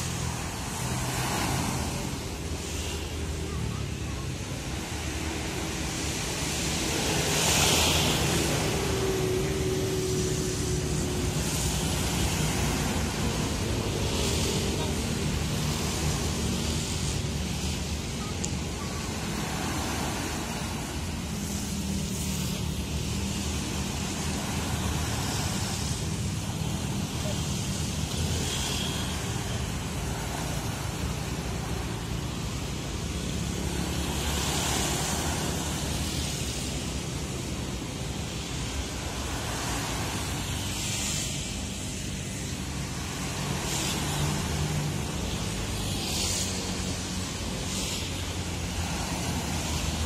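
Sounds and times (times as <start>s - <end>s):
wind and water hiss: 0.0s - 50.0s.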